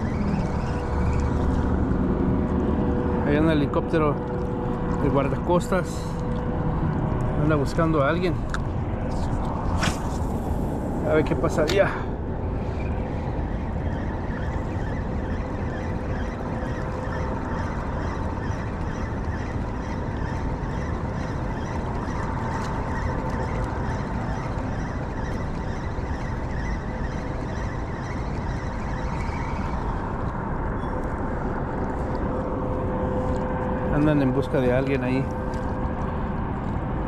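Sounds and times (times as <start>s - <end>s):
helicopter rumble and whine: 0.0s - 37.0s.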